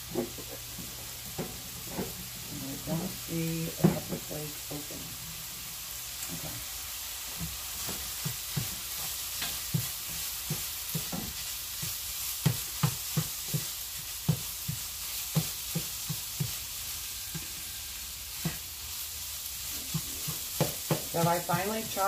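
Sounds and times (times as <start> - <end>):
meat sizzling in a frying pan: 0.0 - 22.0.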